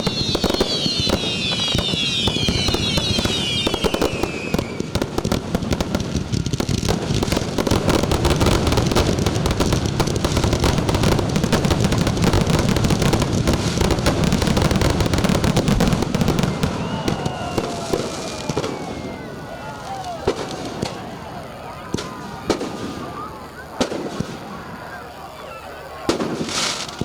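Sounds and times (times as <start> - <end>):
aerial fireworks bangs and crackles: 0.0 - 27.0.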